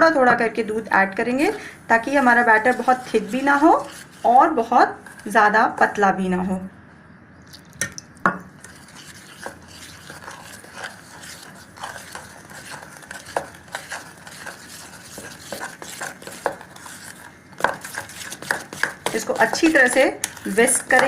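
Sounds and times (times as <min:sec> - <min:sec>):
stirring thick batter: 0:00.0 - 0:05.9, 0:07.8 - 0:21.0.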